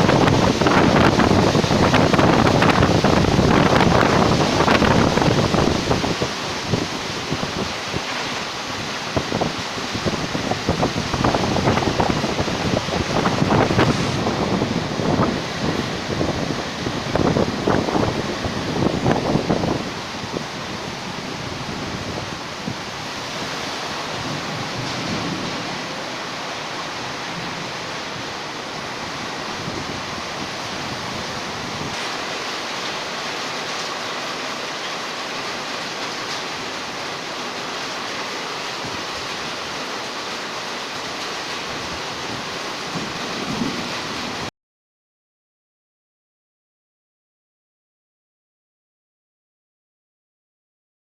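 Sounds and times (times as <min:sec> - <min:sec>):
heavy rain pouring: 0:00.0 - 0:44.5.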